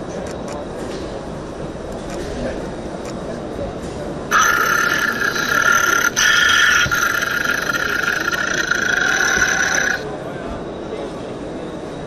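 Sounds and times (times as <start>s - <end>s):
high-pitched mechanical whine: 0.0s - 12.0s.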